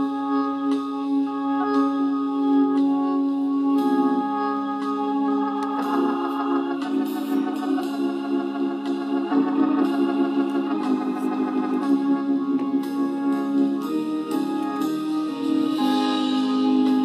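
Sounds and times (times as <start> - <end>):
slow organ music: 0.0 - 17.0.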